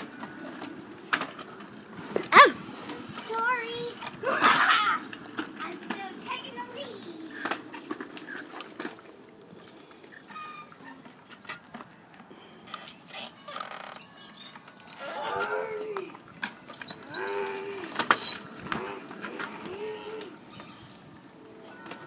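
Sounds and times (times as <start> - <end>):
plastic wheels rolling on concrete: 0.0 - 22.0
pitched wheel squeals: 1.0 - 11.7, 12.4 - 22.0.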